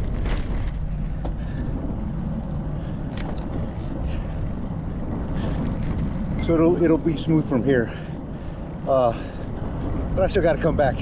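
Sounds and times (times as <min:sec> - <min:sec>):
bike tyres rolling on asphalt: 0:00.0 - 0:11.0
wind on camera microphone: 0:00.0 - 0:11.0.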